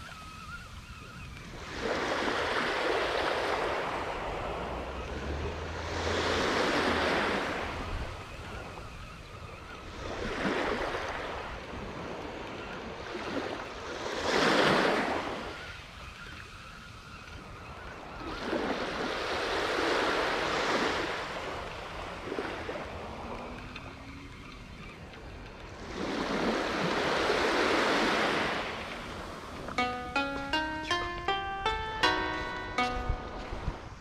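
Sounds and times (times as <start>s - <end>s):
small waves breaking on beach: 0.0s - 29.8s.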